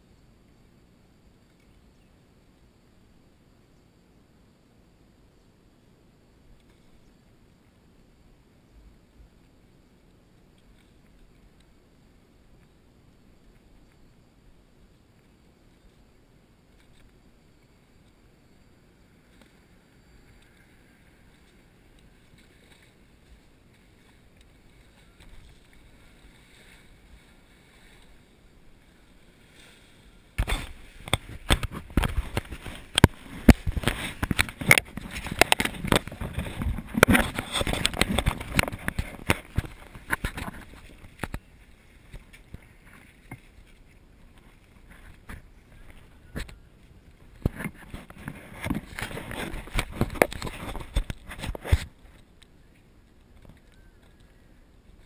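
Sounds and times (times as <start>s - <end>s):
faint low rumble: 0.0s - 51.3s
water splashing and sloshing: 8.8s - 55.0s.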